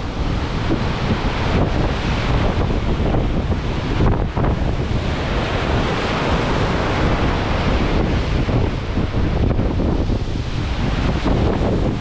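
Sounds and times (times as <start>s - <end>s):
heavy waves breaking against ship: 0.0s - 12.0s
strong wind buffeting microphone: 0.0s - 12.0s.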